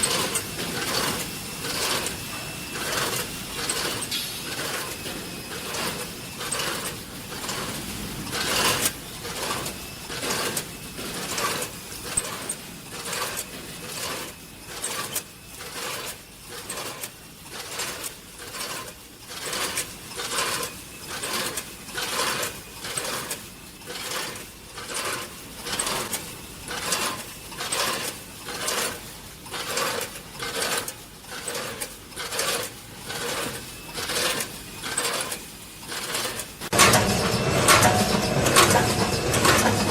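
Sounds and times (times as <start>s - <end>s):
packing machine cycling: 0.0s - 39.9s.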